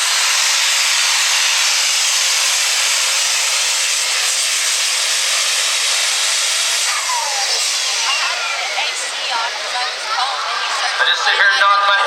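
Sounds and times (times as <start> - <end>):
diesel truck engine at full throttle: 0.0 - 12.0.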